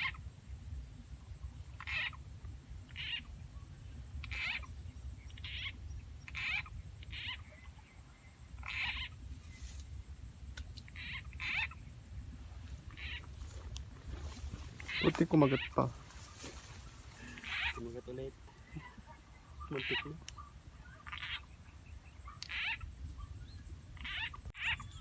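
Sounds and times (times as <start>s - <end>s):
frogs croaking: 0.0s - 25.0s
steady high-pitched whine: 0.0s - 25.0s.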